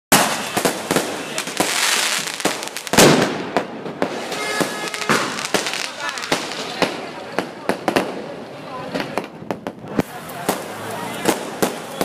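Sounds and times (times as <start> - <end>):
fireworks bangs and crackles: 0.1 - 12.0
fireworks fizzing hiss: 0.1 - 12.0.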